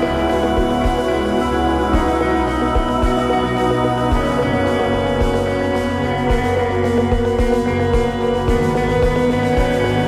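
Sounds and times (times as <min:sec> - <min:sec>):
cinematic sustained tones: 0:00.0 - 0:10.0.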